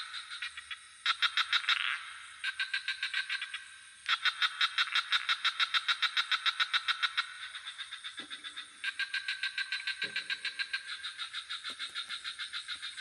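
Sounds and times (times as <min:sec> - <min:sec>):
deep frog croaks: 0:00.0 - 0:13.0
frogs pulsing call: 0:00.0 - 0:13.0
high insect drone: 0:00.0 - 0:13.0.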